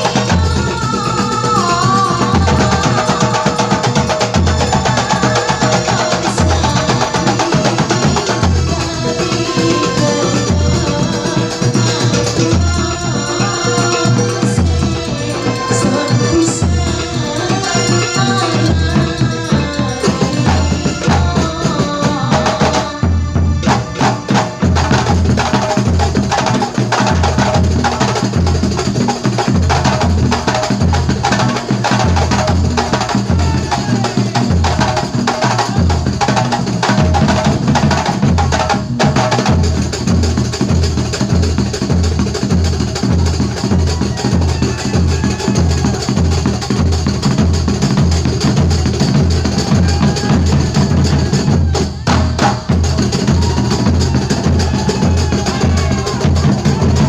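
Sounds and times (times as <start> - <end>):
deep drum beat: 0.0 - 57.0
frame drums fast rhythm: 0.0 - 57.0.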